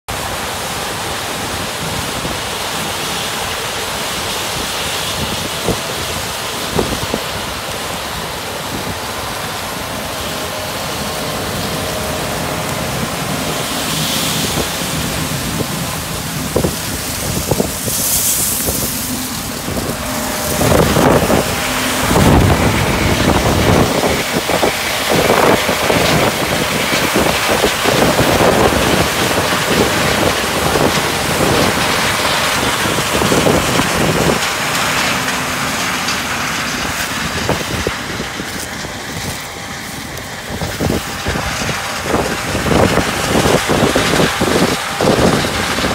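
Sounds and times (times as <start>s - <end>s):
farm machinery running: 0.1s - 45.9s
wind buffeting microphone: 1.3s - 45.9s.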